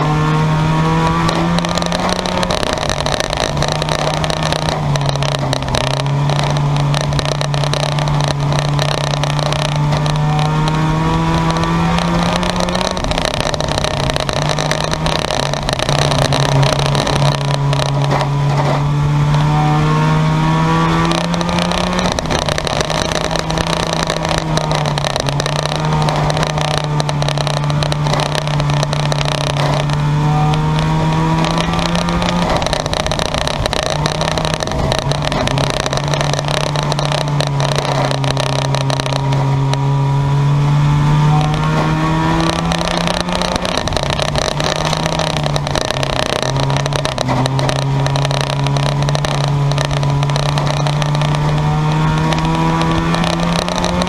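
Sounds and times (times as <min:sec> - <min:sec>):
din of other engines: 0:00.0 - 0:54.0
race car engine revving: 0:00.0 - 0:54.0.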